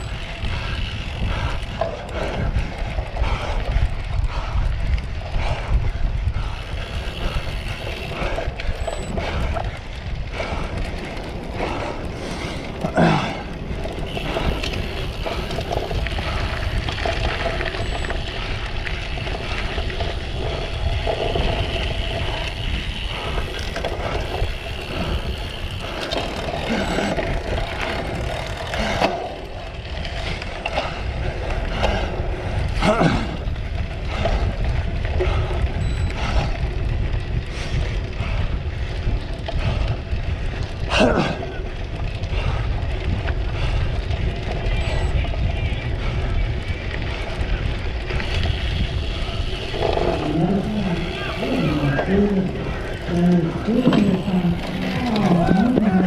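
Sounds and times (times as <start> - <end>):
bike tyres and frame rattling: 0.0 - 56.0
wind on microphone: 0.0 - 56.0.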